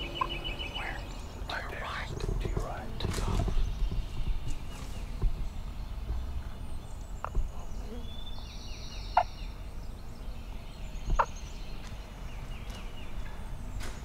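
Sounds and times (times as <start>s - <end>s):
songbirds singing: 0.0s - 14.0s.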